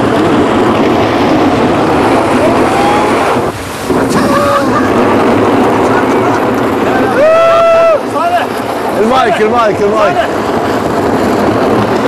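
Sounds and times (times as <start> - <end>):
water splashing and rushing: 0.0 - 12.0.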